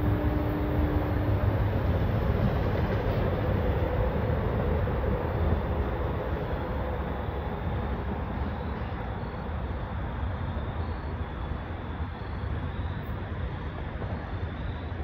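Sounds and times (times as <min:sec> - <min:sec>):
diesel locomotive rumble: 0:00.0 - 0:14.6.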